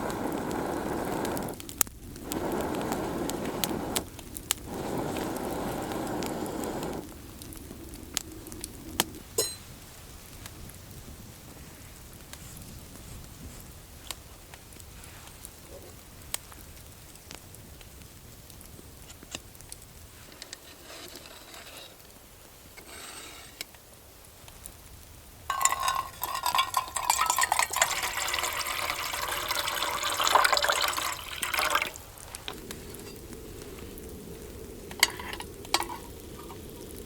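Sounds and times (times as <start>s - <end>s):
crackling sizzle from hot pan: 0.0s - 37.0s
quiet frying: 0.0s - 37.0s.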